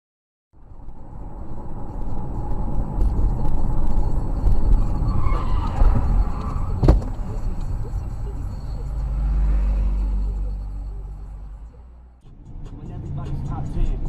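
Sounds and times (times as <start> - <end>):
car road and engine rumble: 0.6 - 14.0.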